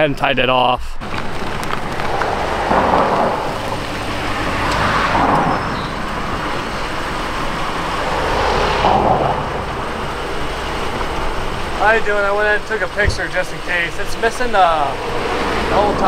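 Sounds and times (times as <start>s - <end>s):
car engine rumble: 0.9s - 16.0s
tyres on asphalt: 1.0s - 16.0s.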